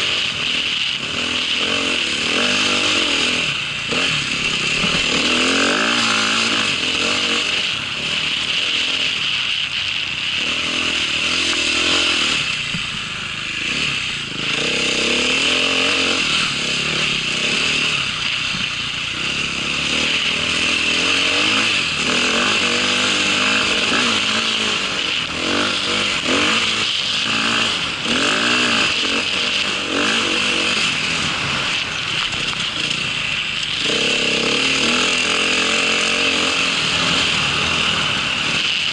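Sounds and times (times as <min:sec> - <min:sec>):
small vehicle engine revving: 0:00.0 - 0:38.9.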